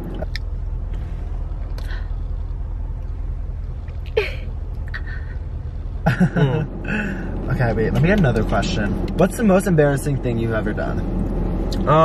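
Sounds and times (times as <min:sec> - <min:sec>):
vehicle cabin hum: 0:00.0 - 0:12.0.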